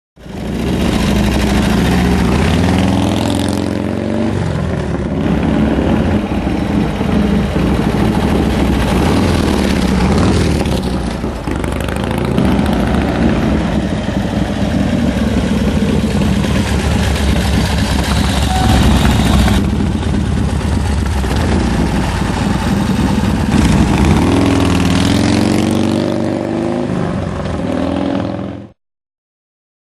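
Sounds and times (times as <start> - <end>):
motorcycle engine idling and revving: 0.2 - 28.8.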